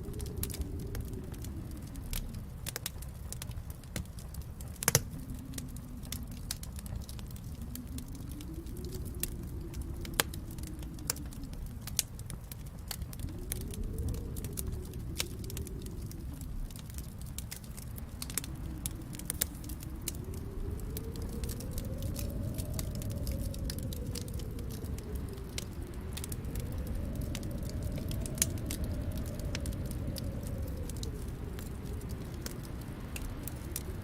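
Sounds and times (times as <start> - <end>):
low rushing wind: 0.0 - 34.0
wood fire crackling: 0.0 - 34.0.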